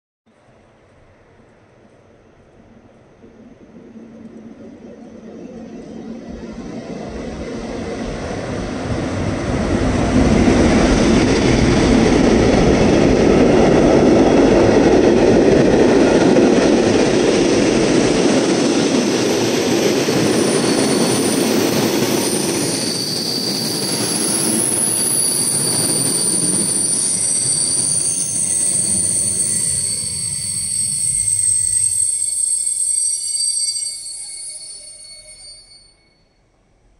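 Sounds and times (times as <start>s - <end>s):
passenger train rumbling past: 0.4s - 35.9s
high steady squealing: 4.5s - 36.5s.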